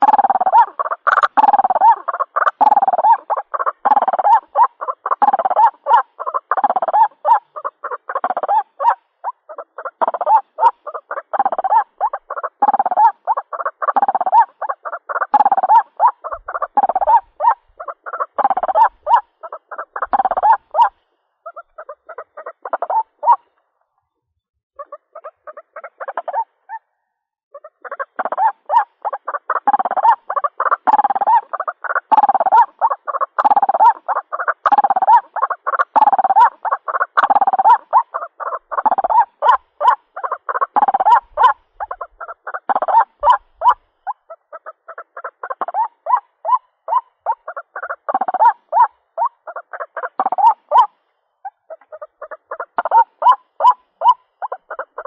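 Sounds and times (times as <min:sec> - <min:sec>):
waterhen harsh repeated calls: 0:00.0 - 0:23.5, 0:24.8 - 0:26.9, 0:27.6 - 0:55.0.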